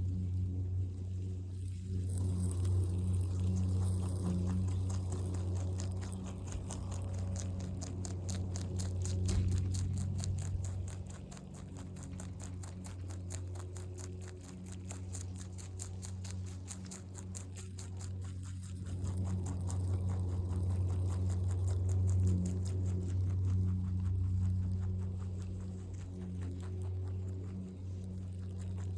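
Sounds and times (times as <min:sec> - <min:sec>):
rabbit chewing leaves: 0:00.0 - 0:28.9
steady low hum: 0:00.0 - 0:28.9.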